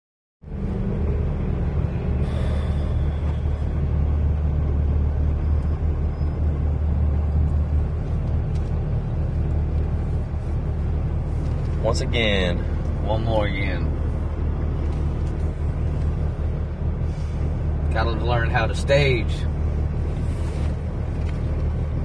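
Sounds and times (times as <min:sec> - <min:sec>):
diesel engine idling: 0:00.5 - 0:22.0.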